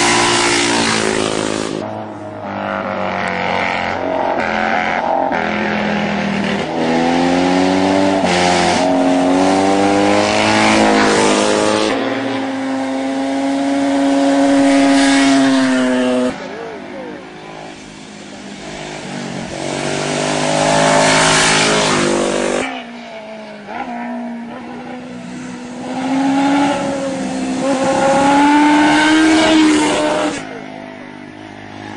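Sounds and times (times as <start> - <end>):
racing motorcycles accelerating: 0.0 - 30.7.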